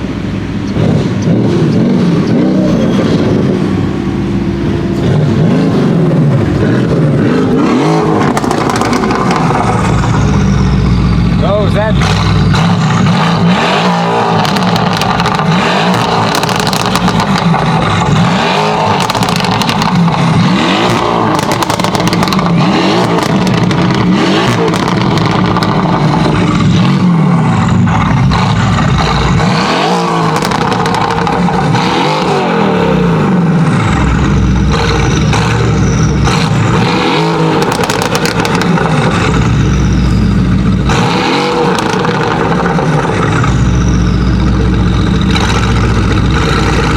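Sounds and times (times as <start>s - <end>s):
sports car engine revving: 0.0s - 46.9s
exhaust crackles and pops: 5.0s - 32.4s, 33.2s - 46.9s.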